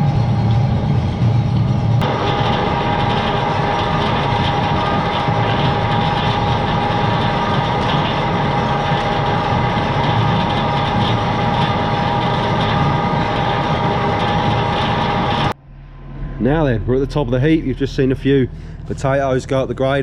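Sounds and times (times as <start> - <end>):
constant high hum: 0.0 - 20.0
loud machine din: 0.0 - 20.0.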